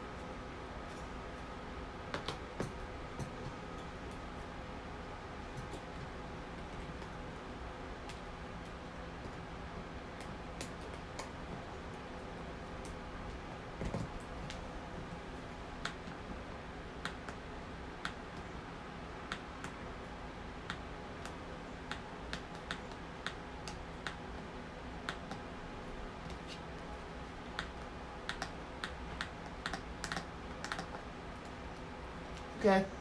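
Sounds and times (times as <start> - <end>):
desk fan humming: 0.0 - 33.0.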